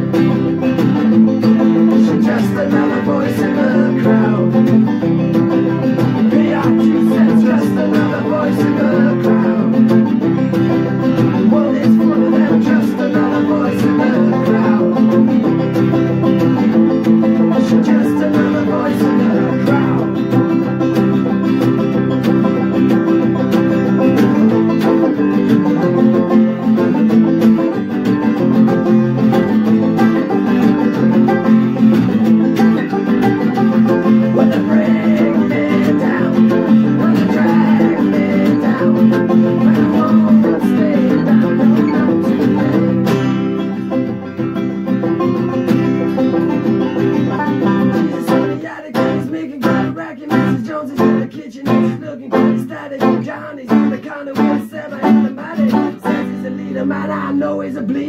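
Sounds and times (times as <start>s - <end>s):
acoustic guitar strumming: 0.0s - 58.0s
banjo: 0.0s - 58.0s.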